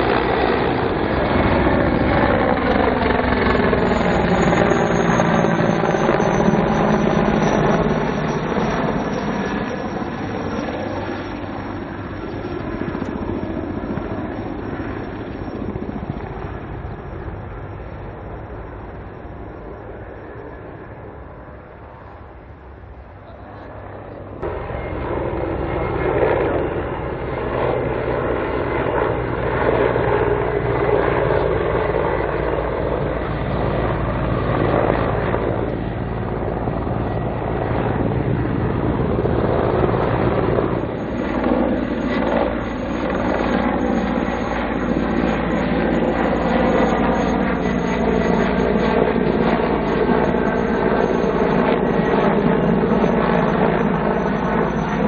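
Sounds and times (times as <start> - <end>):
helicopter flying past: 0.0 - 55.0.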